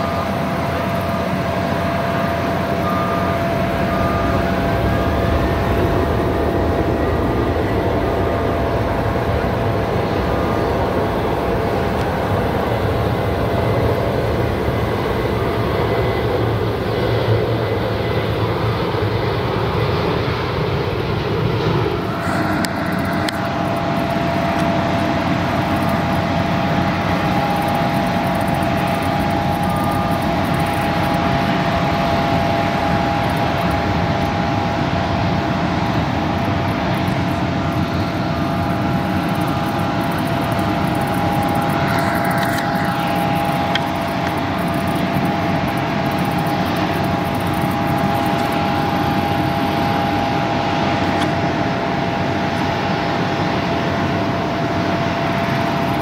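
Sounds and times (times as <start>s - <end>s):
jet engines rumbling: 0.0s - 56.0s
two-tone jet whine: 0.0s - 56.0s.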